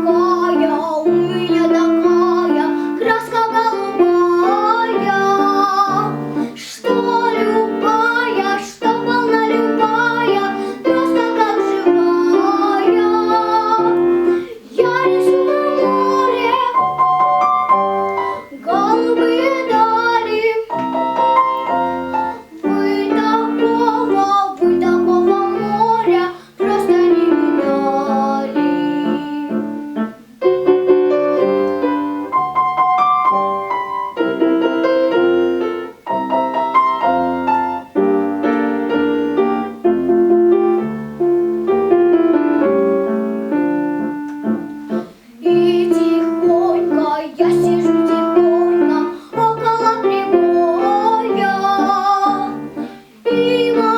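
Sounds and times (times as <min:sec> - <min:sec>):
girl singing: 0:00.0 - 0:40.9, 0:43.4 - 0:53.9
piano accompaniment: 0:00.0 - 0:53.9.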